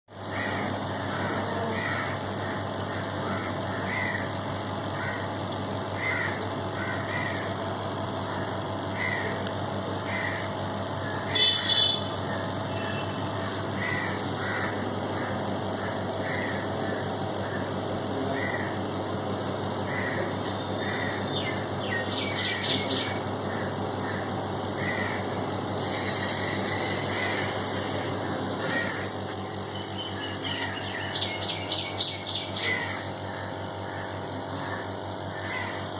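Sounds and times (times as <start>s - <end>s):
small motor humming: 0.3s - 35.9s.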